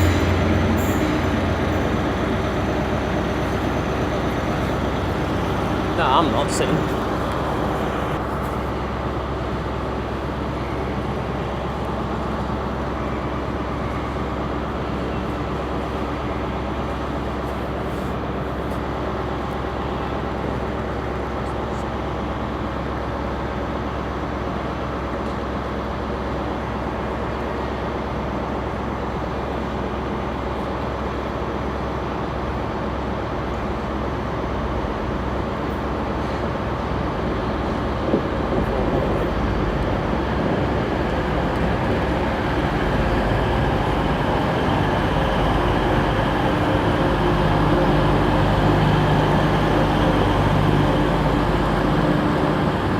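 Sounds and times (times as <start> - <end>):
train engines rumbling: 0.0 - 52.9.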